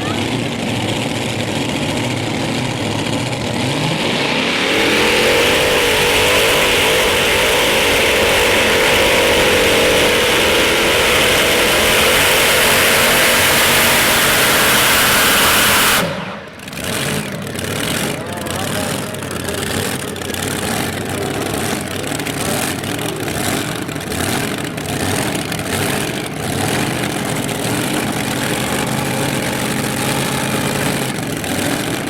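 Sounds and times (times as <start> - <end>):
tractor engine revving: 0.0 - 32.0.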